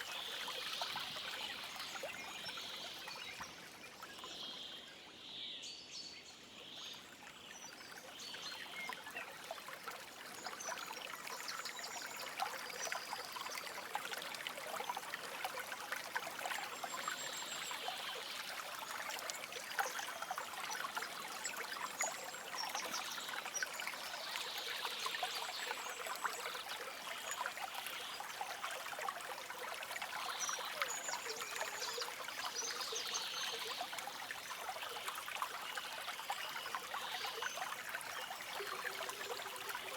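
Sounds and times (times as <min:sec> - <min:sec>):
stream babbling over stones: 0:07.0 - 0:39.9.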